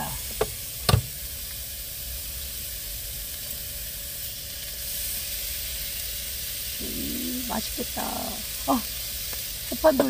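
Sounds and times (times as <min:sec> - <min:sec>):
meat sizzling in a frying pan: 0:00.0 - 0:10.0.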